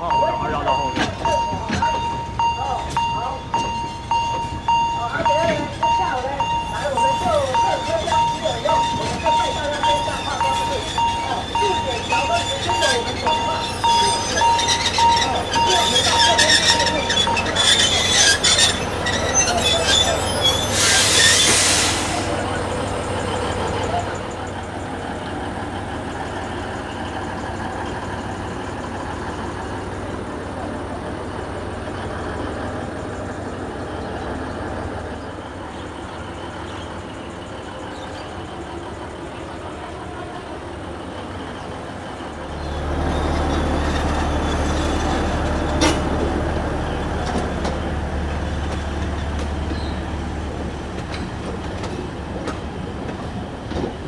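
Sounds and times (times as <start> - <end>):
train rolling noise: 0.0 - 54.0.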